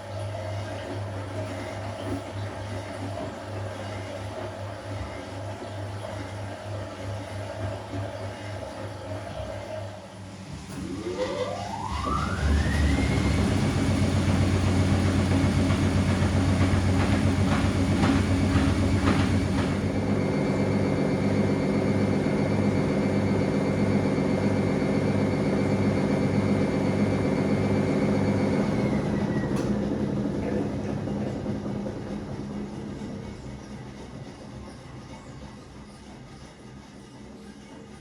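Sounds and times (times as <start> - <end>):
washing machine motor whine: 0.0 - 38.0.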